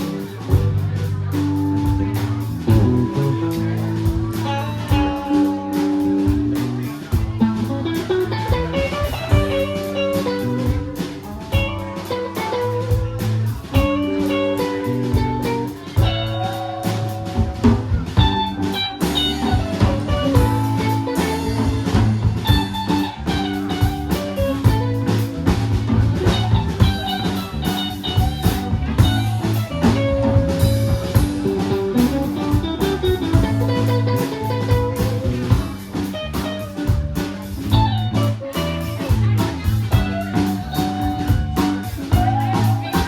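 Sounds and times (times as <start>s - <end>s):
bass guitar: 0.0s - 43.0s
drum kit: 0.0s - 43.0s
electric guitar: 0.0s - 43.0s.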